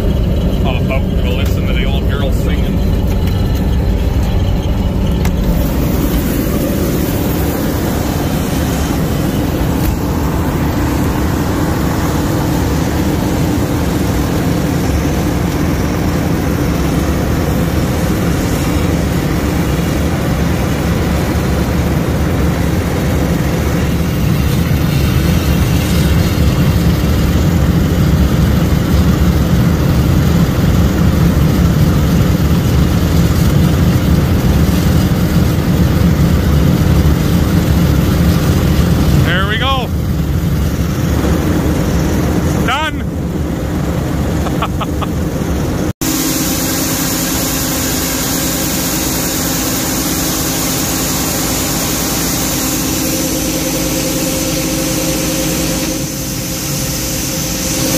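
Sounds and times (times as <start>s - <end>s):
diesel farm machinery droning: 0.0s - 57.9s.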